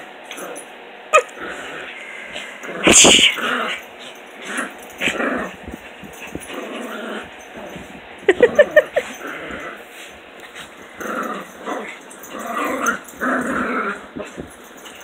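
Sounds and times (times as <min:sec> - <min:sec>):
puppies growling and scuffling: 0:00.0 - 0:15.0.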